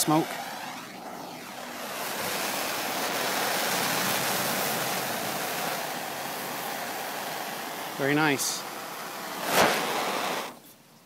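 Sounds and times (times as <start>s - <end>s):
propellant burning with hiss: 0.0s - 10.9s.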